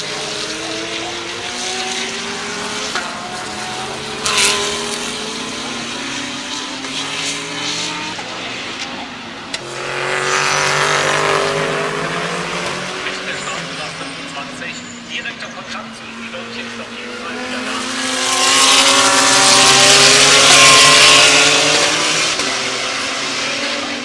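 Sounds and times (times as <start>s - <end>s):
race car engines accelerating: 0.0s - 24.0s
race car passing: 0.0s - 24.0s.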